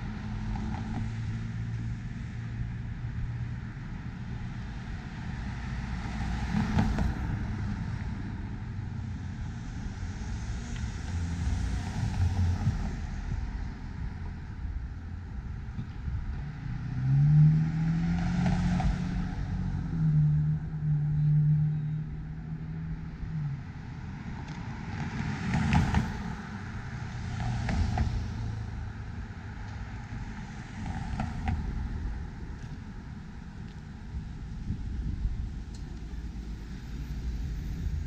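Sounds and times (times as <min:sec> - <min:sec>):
car engines: 0:00.0 - 0:38.0.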